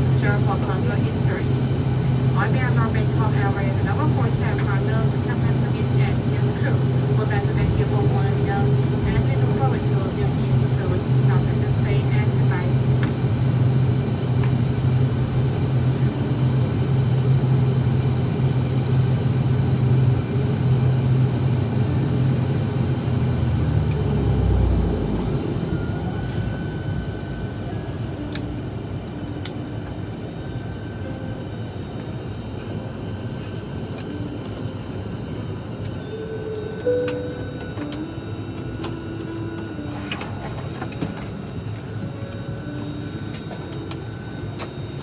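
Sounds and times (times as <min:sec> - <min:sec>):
propeller aircraft engines droning: 0:00.0 - 0:45.0.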